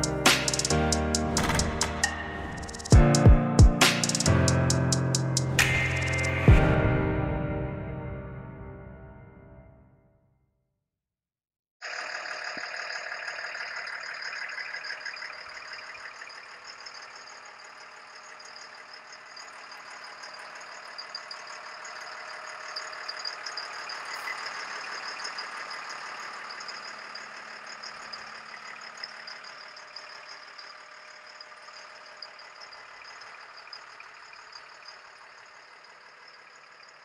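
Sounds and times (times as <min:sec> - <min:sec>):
diesel truck engine idling: 0:00.0 - 0:07.9, 0:11.8 - 0:37.0.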